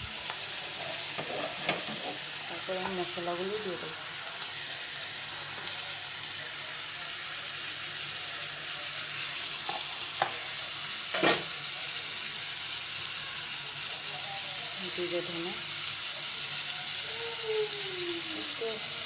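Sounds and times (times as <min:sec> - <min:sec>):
oil sizzling in a pan: 0:00.0 - 0:19.0.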